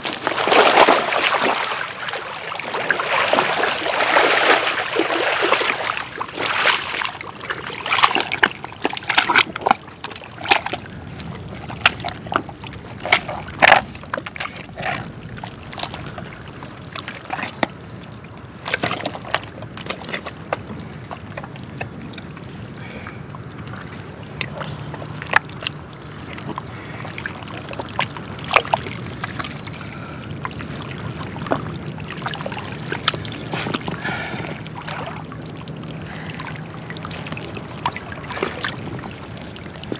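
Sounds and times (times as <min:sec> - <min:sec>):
body squelching through wet mud: 0:00.0 - 0:23.0, 0:23.7 - 0:39.9
trickling water: 0:00.0 - 0:39.9.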